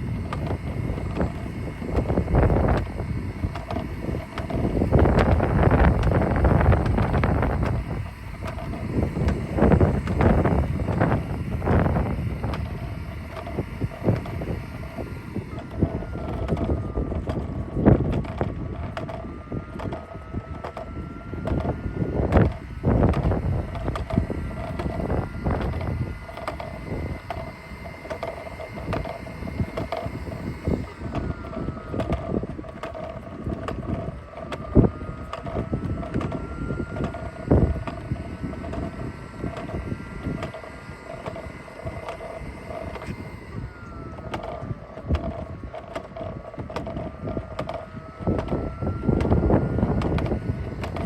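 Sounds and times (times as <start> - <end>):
robot vacuum humming: 0.0 - 51.0
wind buffeting microphone: 0.0 - 51.0.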